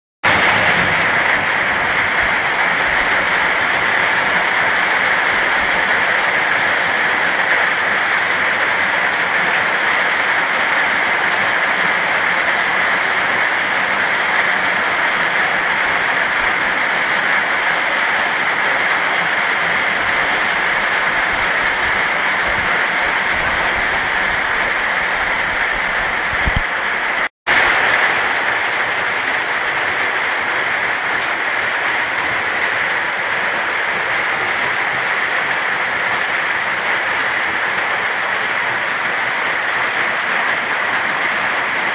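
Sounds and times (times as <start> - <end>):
heavy rain falling: 0.2 - 41.9.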